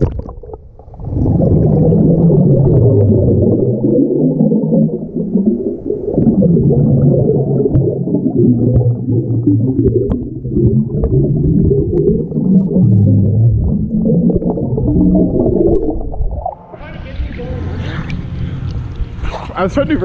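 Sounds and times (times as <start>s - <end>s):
bubbles from swimmer exhaling: 0.0s - 16.6s
muffled underwater hum and rumble: 0.1s - 19.6s.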